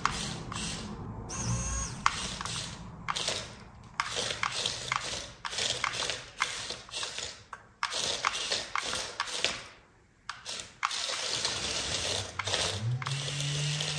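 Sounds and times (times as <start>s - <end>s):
geared mechanism ratcheting: 0.0s - 9.7s, 10.3s - 13.9s.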